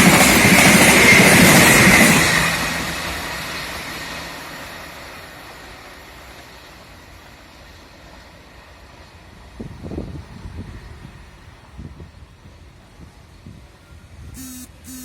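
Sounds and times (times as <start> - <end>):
passenger train rumble: 0.0 - 14.4.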